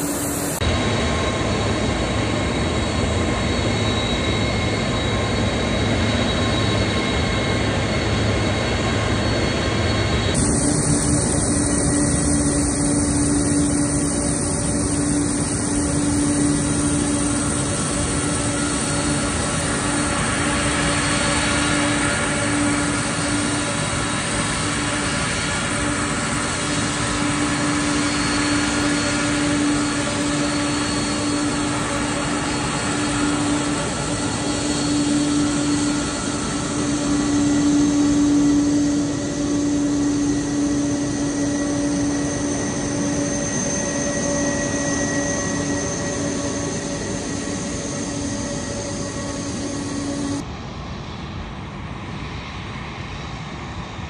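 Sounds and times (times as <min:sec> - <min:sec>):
jet engines taxiing: 0:00.0 - 0:54.0.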